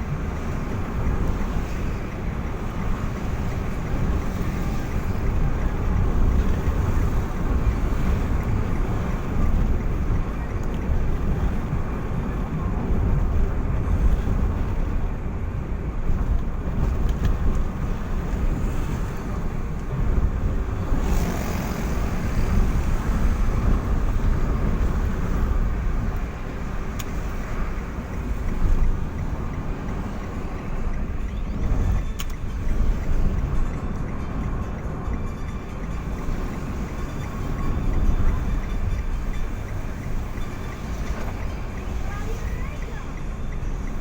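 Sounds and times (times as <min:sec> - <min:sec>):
vehicle engine and road noise: 0:00.0 - 0:44.0.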